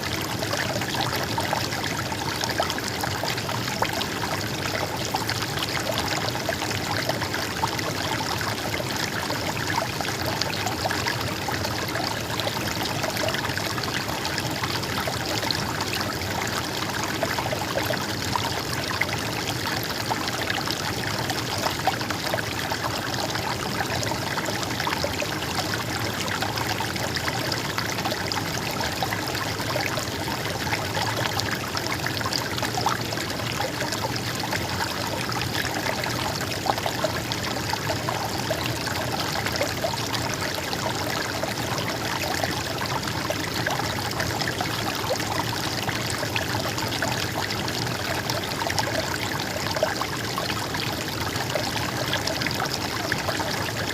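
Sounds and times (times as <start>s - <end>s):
stream water trickling: 0.0s - 53.9s.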